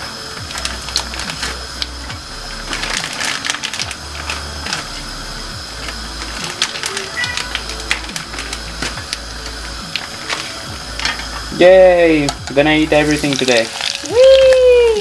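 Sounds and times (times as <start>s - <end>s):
background music with bass: 0.0s - 15.0s
food frying in hot oil: 0.0s - 15.0s.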